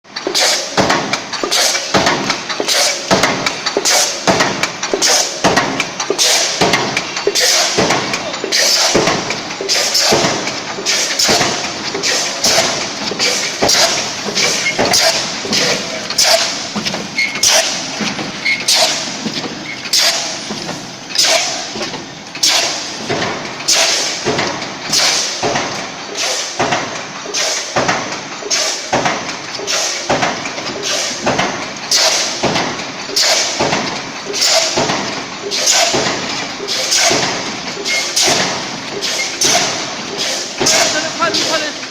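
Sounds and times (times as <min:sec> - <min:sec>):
steady machine noise: 0:00.0 - 0:41.9
stamping press metallic thumps: 0:00.2 - 0:25.9, 0:27.8 - 0:29.4, 0:30.1 - 0:41.5.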